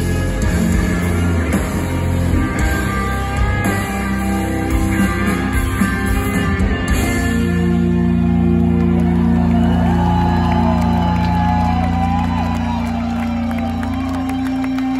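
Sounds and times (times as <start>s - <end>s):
live rock band: 0.0s - 14.9s.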